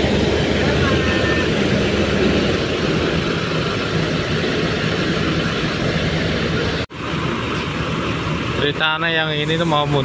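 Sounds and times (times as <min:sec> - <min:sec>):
bus diesel engine droning: 0:00.0 - 0:10.0.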